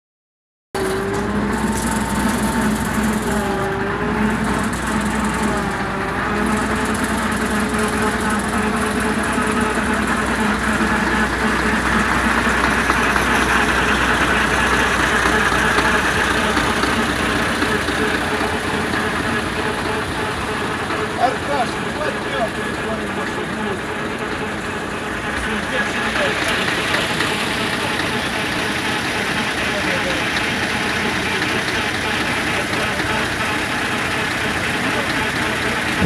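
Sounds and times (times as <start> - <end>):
engine idling: 0.8 - 36.0.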